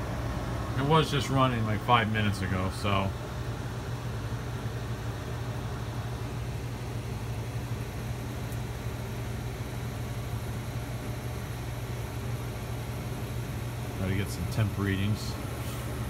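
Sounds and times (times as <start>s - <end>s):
air conditioner blower rushing: 0.0s - 16.0s
constant low hum: 0.0s - 16.0s.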